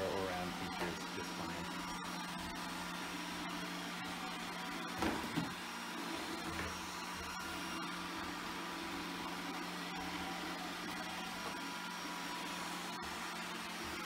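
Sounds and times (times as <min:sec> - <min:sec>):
robot vacuum humming: 0:00.0 - 0:14.0.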